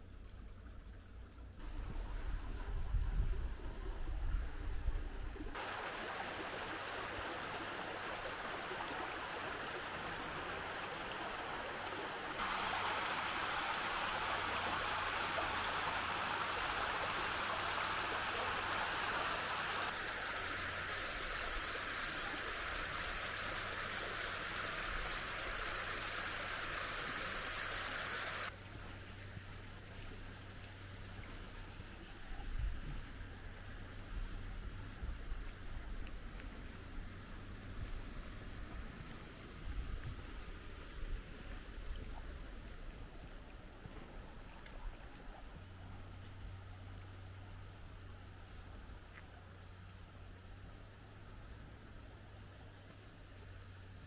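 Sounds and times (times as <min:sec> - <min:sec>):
water rushing in a channel: 0:00.0 - 0:54.0.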